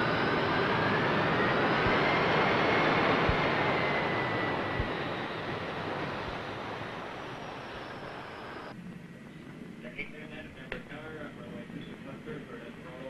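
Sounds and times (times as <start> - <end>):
jet engines running at taxi: 0.0 - 13.0.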